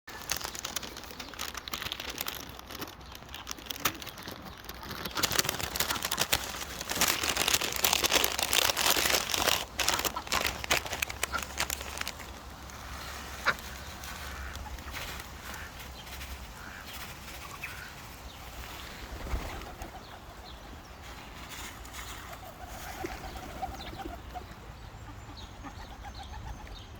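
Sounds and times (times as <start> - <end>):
ducks pecking and bill clicks: 0.1 - 26.9.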